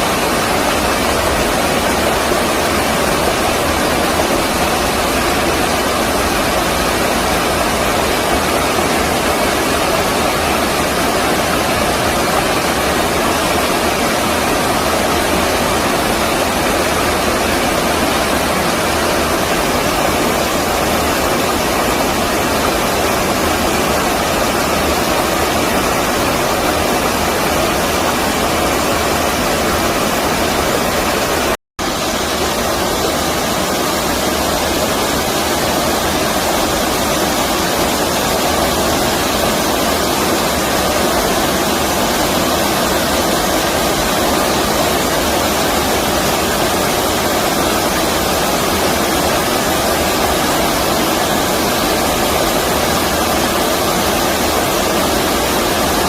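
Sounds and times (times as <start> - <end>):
stream water rushing over rapids: 0.0 - 56.0.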